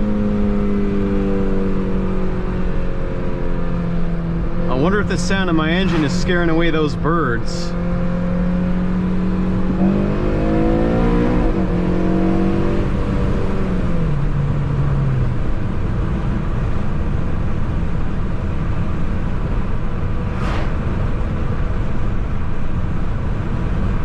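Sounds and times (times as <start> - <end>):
car engine accelerating: 0.0 - 24.0
road rumble: 0.0 - 24.0.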